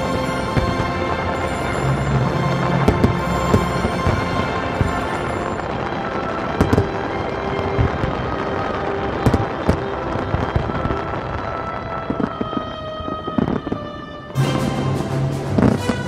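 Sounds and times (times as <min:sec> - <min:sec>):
fireworks bangs: 0:00.0 - 0:13.9
background music: 0:00.0 - 0:16.0.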